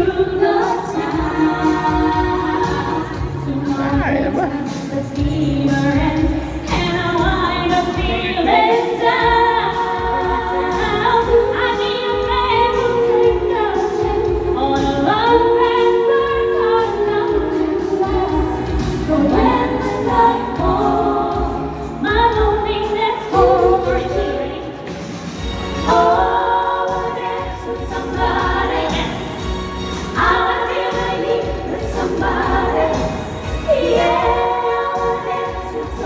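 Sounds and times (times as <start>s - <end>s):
woman singing into microphone: 0.0s - 24.9s, 25.9s - 29.5s, 30.1s - 36.0s
amplified backing music: 0.0s - 36.0s.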